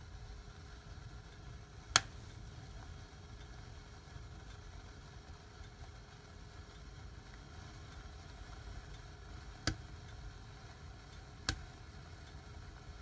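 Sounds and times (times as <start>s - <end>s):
flames rushing: 0.3s - 13.0s.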